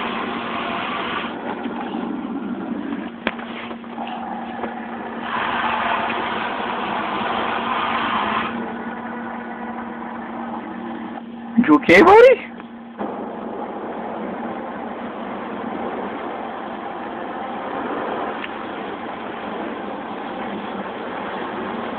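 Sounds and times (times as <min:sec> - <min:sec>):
car wash spray rushing: 0:00.0 - 0:11.1, 0:13.0 - 0:21.9
constant machine hum: 0:00.0 - 0:21.9.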